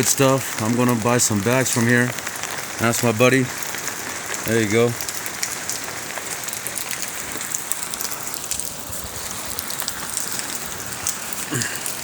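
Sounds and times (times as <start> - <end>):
heavy rain pouring: 0.0 - 12.0
raindrops pattering on surfaces: 0.0 - 12.0.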